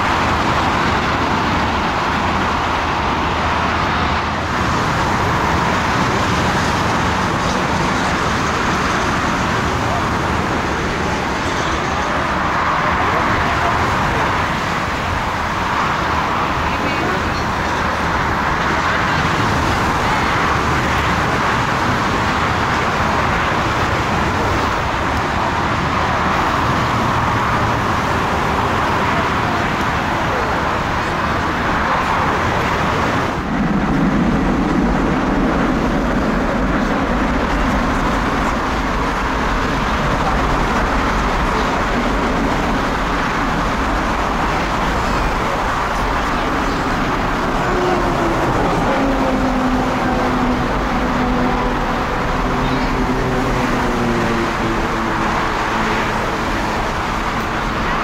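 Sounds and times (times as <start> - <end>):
jet engines whine and rumble: 0.0 - 58.0.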